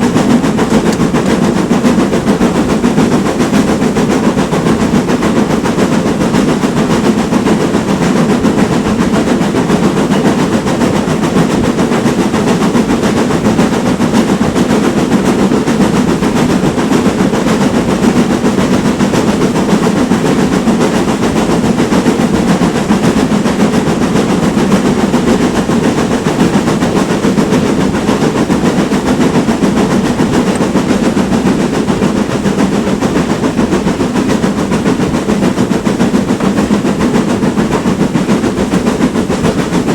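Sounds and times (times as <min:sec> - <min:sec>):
steam train rumbling and rattling: 0:00.0 - 0:39.9.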